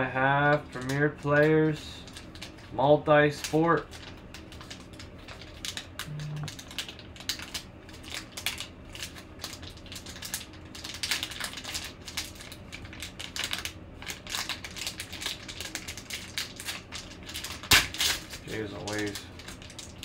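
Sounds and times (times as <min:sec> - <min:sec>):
cards rustling: 0:00.4 - 0:20.0
foil wrapper crinkling and tearing: 0:00.4 - 0:20.0.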